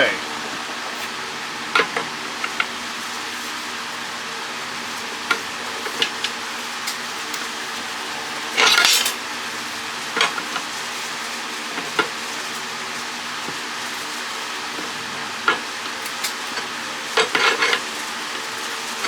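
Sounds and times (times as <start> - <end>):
room fan humming: 0.0 - 19.0.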